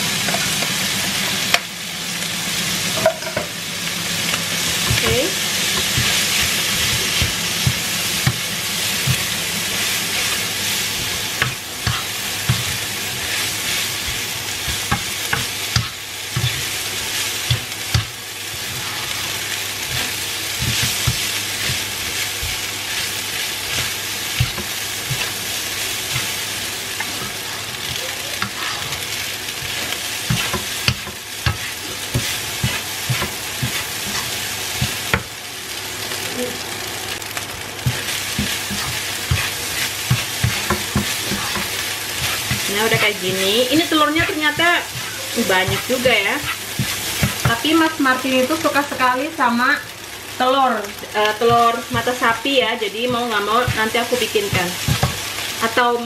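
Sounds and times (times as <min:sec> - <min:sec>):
rice sizzling in a wok: 0:00.0 - 0:56.0
spatula stirring: 0:04.3 - 0:35.3, 0:37.8 - 0:49.0, 0:51.1 - 0:55.8.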